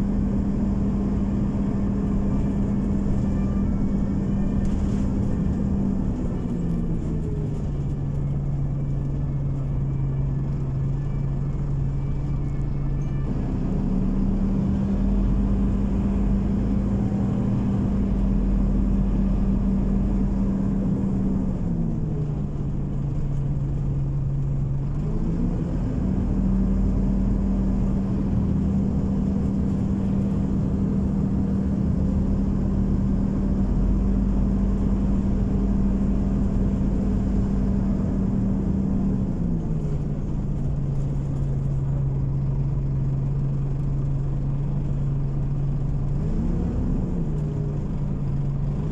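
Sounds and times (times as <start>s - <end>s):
bus engine humming: 0.0s - 48.9s
low rumble: 0.0s - 48.9s.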